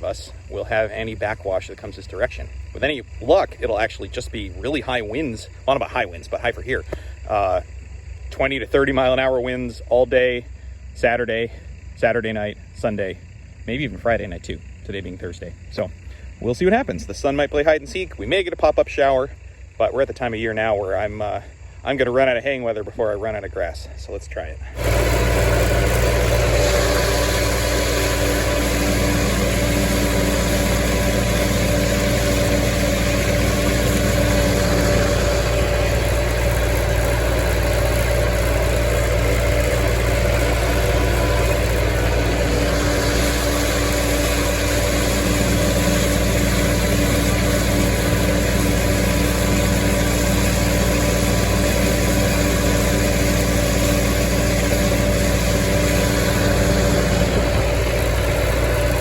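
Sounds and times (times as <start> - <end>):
tractor engine droning: 0.0 - 59.0.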